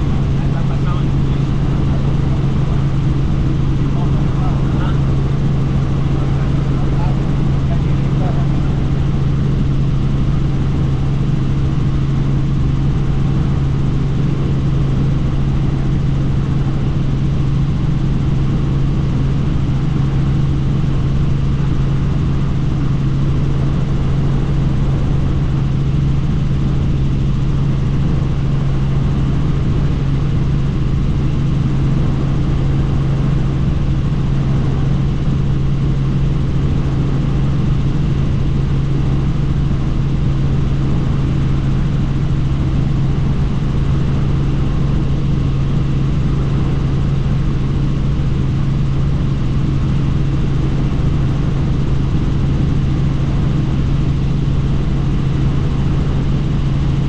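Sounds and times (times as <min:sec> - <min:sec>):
helicopter drone inside cabin: 0:00.0 - 0:57.0.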